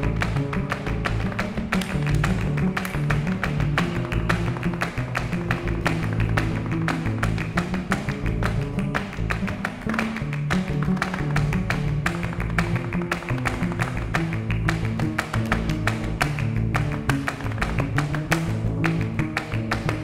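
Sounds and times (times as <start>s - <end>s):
flamenco footwork strikes: 0.0s - 20.0s
hand-clapping: 0.0s - 20.0s
plucked double bass: 0.0s - 20.0s.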